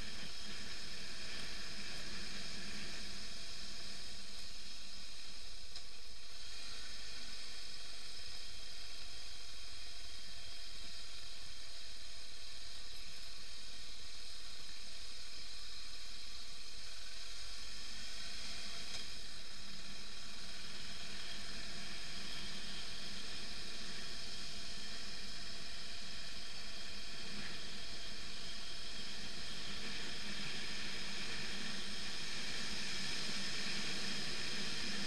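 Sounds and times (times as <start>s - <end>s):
wind hiss: 0.0s - 35.0s.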